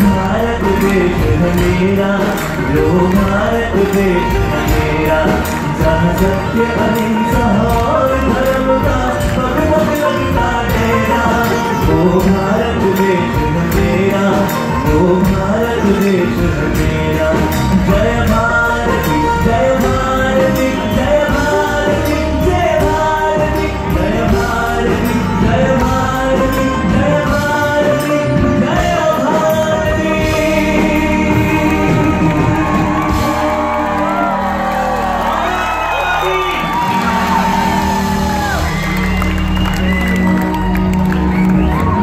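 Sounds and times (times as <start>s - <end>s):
man singing: 0.0s - 38.9s
live band with steady beat: 0.0s - 42.0s.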